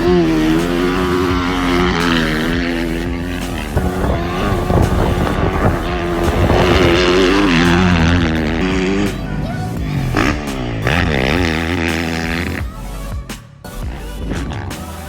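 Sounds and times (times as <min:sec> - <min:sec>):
motocross bike engine running: 0:00.0 - 0:14.8.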